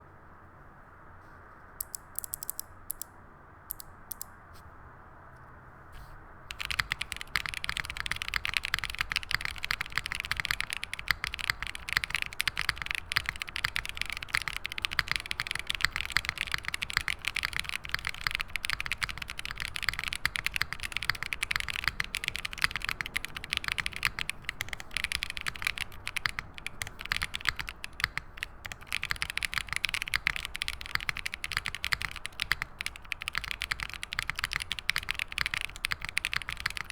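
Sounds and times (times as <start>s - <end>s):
mechanical keyboard typing: 1.8s - 3.1s, 3.7s - 4.3s, 6.5s - 36.9s.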